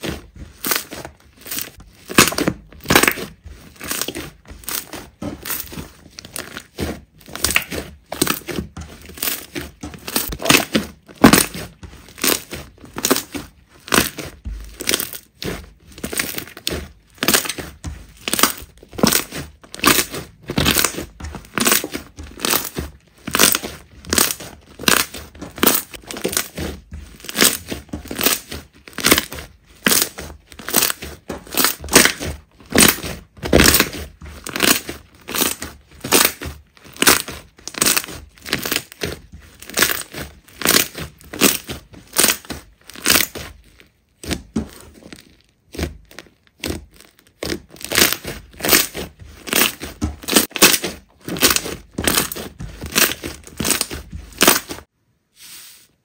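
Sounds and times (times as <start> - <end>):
slime squishing by hand: 0.0 - 56.0.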